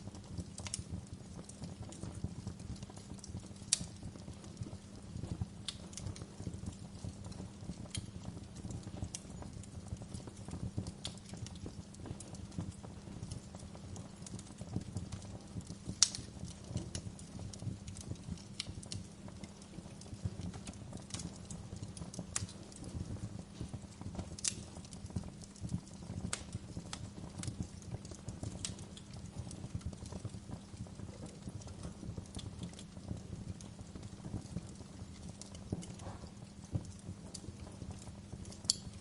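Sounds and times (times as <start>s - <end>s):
low rumble of flame: 0.0s - 39.0s
wood fire crackling and popping: 0.0s - 39.0s.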